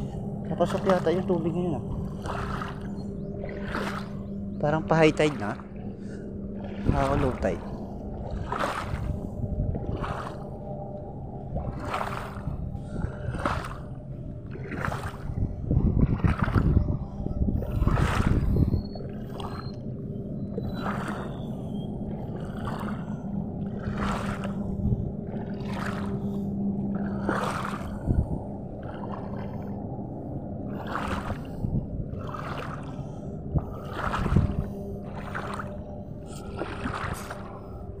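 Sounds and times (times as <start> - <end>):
steady low hum: 0.0 - 38.0
wading through shallow water: 0.0 - 38.0.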